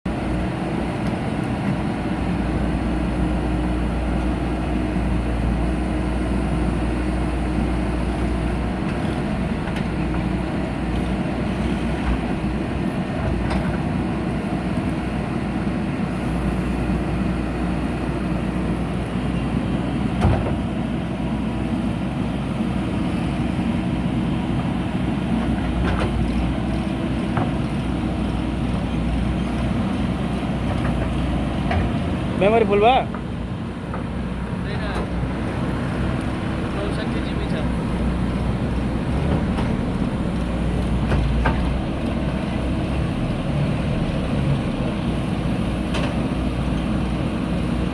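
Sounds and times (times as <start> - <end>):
diesel engine running: 0.1 - 47.9.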